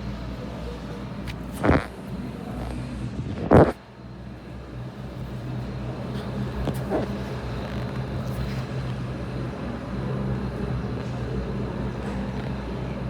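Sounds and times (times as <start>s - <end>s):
airliner engines droning: 0.0s - 13.0s.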